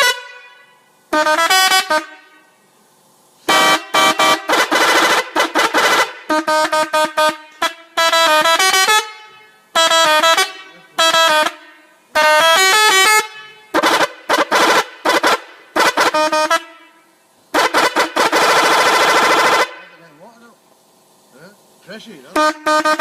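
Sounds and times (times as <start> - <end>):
musical bus horn tune: 0.0 - 2.7, 3.4 - 20.0, 22.3 - 23.0.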